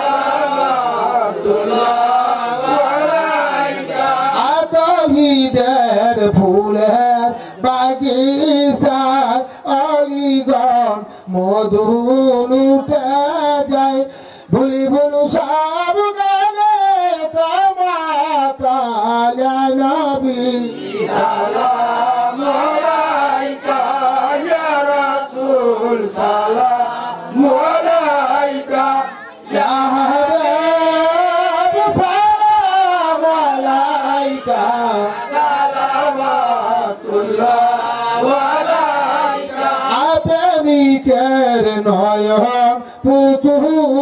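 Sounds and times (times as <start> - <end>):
man chanting into a microphone: 0.0 - 44.0.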